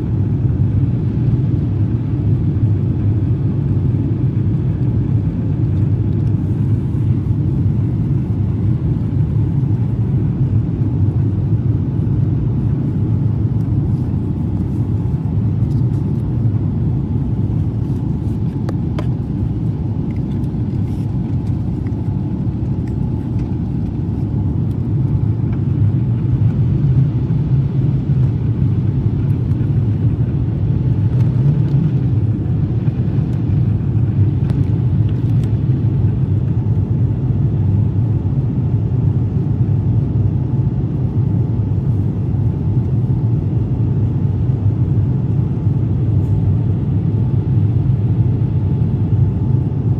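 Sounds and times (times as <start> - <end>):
jet airliner cabin roar: 0.0 - 49.9.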